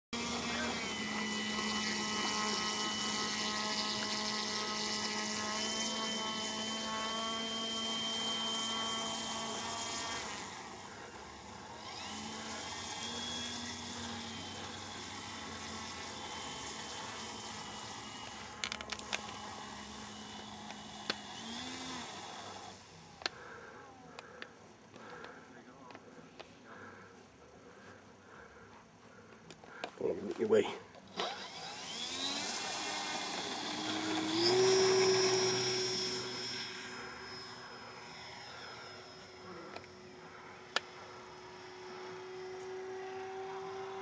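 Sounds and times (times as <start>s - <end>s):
model airplane engine whining: 0.2s - 44.0s.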